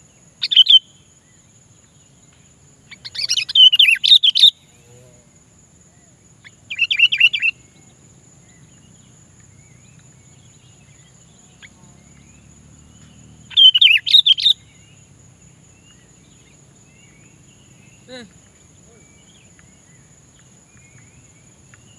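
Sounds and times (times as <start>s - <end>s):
bird singing warbled phrases: 0.4s - 1.4s, 2.8s - 5.2s, 6.4s - 15.1s, 15.7s - 21.9s.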